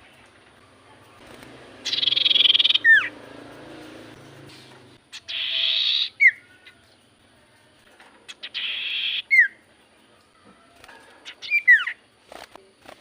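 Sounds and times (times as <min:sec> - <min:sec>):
bird singing buzzing phrases: 0:01.2 - 0:10.3, 0:11.2 - 0:13.0.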